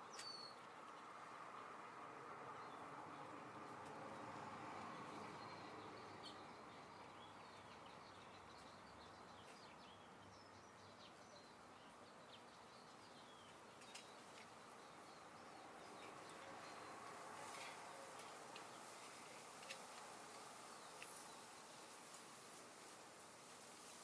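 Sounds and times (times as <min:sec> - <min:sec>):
soft wind hiss: 0:00.0 - 0:24.0.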